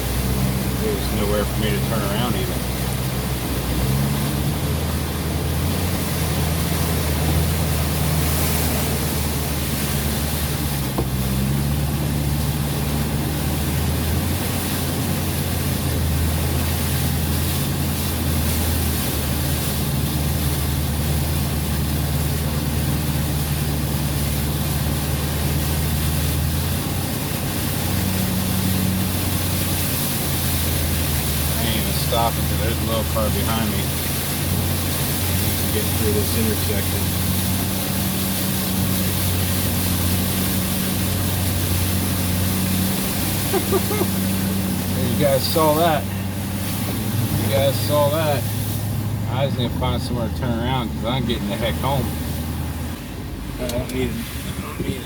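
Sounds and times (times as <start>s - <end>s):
truck engine running at low speed: 0.0s - 55.0s.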